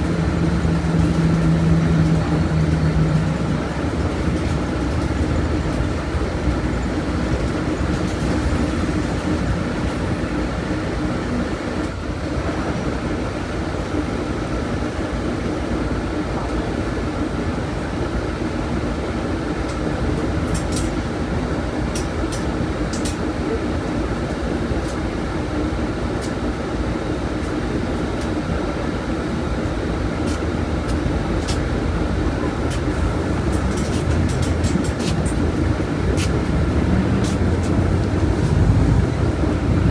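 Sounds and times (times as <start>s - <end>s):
diesel bus engine rumbling: 0.0s - 39.9s.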